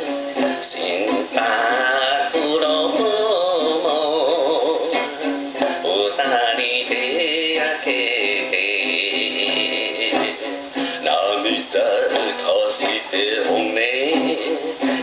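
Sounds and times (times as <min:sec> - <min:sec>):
instrumental accompaniment: 0:00.0 - 0:15.0
man singing with vibrato: 0:00.0 - 0:15.0.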